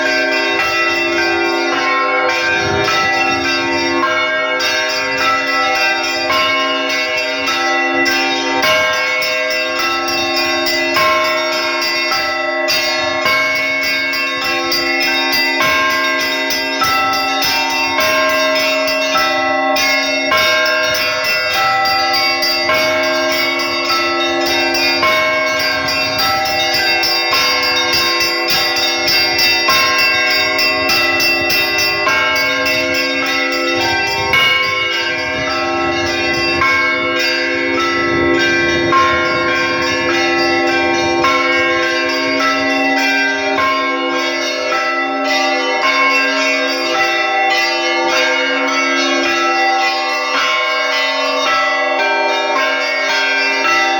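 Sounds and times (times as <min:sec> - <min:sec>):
large bells sustained tones: 0:00.0 - 0:53.9
small bells striking quickly: 0:00.0 - 0:53.9.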